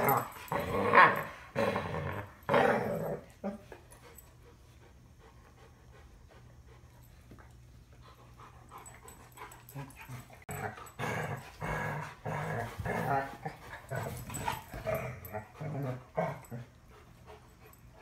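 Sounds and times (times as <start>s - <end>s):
dogs play growling: 0.0s - 18.0s.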